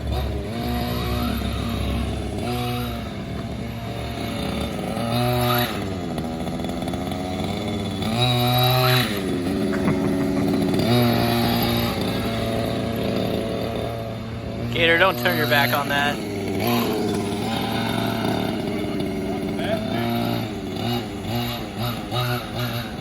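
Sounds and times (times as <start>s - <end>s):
small engine revving: 0.0s - 23.0s.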